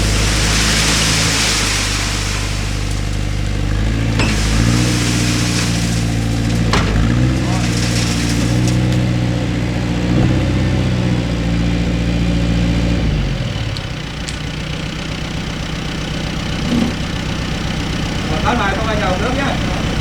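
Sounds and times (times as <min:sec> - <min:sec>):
vehicle engine running and idling: 0:00.0 - 0:20.0.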